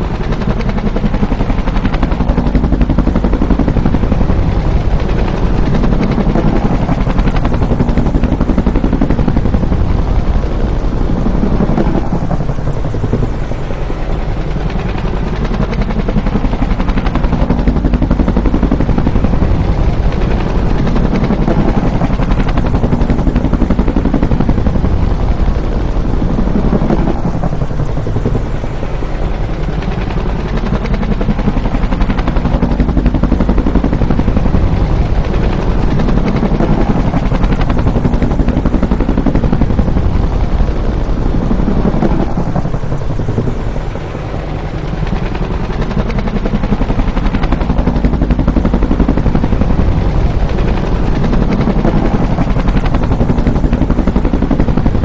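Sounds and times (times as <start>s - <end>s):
helicopter rotor blade slap: 0.0s - 55.0s
helicopter turbine noise: 0.0s - 55.0s.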